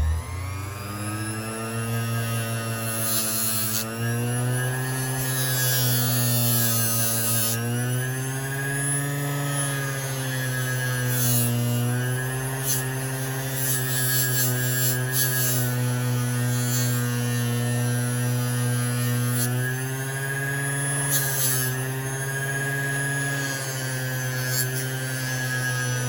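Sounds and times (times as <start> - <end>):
blade scraping on wheel: 2.2 - 26.0.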